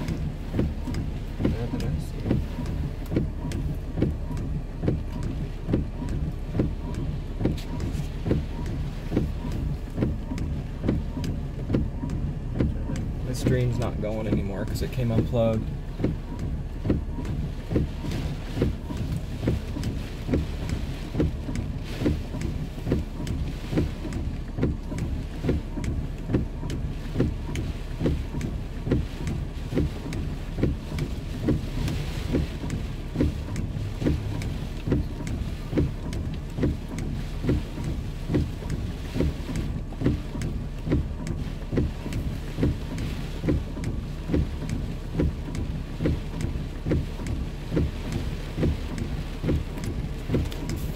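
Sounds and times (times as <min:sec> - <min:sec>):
heavy rain: 0:00.0 - 0:50.9
regular thump: 0:00.0 - 0:50.9.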